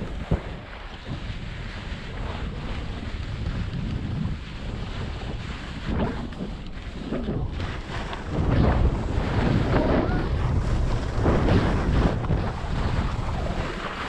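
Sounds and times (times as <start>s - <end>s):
skis scraping on snow: 0.0s - 14.0s
wind buffeting microphone: 0.0s - 14.0s.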